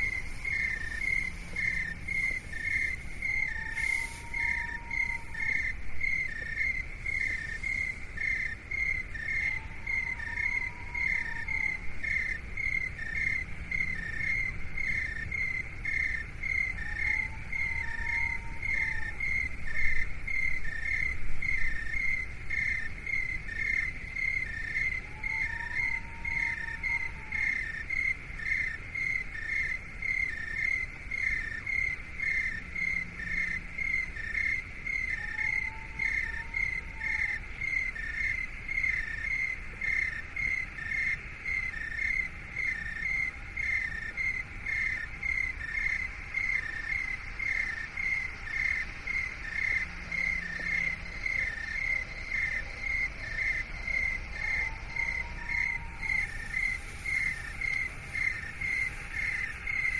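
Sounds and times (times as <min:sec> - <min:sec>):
cricket-like chirping: 0:00.0 - 0:59.9
low steady rumble: 0:00.0 - 0:59.9.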